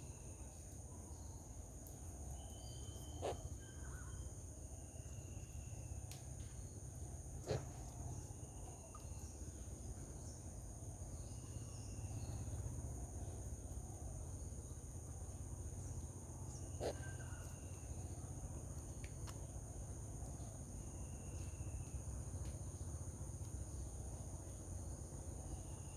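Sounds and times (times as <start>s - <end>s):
insects droning: 0.0s - 25.9s.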